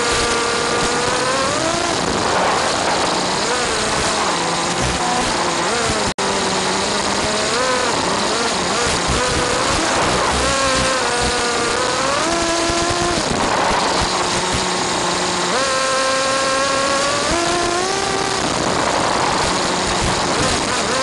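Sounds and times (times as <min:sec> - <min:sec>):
small engine revving: 0:00.0 - 0:21.0.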